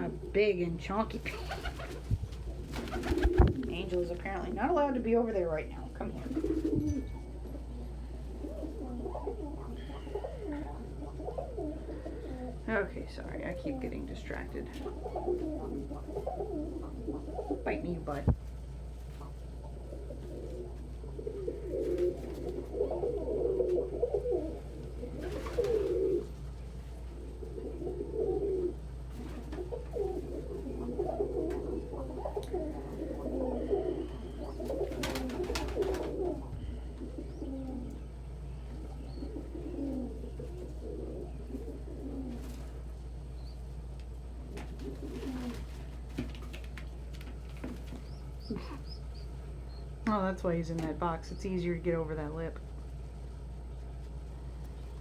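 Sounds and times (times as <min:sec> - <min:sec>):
pigeons cooing: 0:01.1 - 0:50.0.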